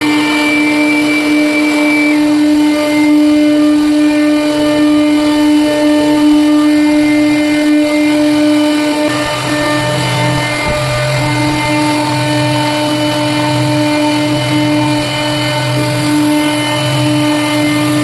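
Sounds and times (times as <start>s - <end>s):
router spindle whining: 0.0s - 18.0s.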